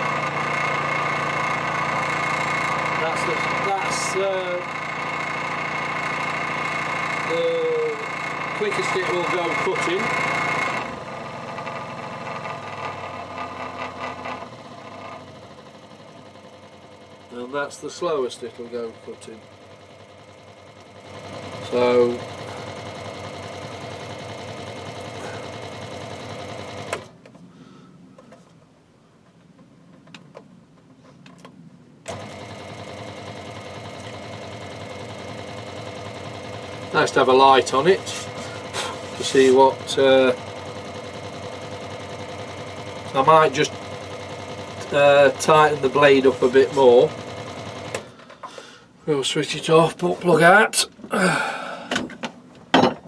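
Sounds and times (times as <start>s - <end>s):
scroll saw cutting wood: 0.0s - 27.2s, 32.1s - 48.2s.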